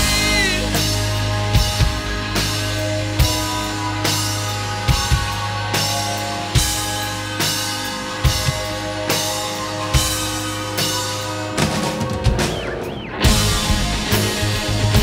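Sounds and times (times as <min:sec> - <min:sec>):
rock band playing instrumental: 0:00.0 - 0:15.0.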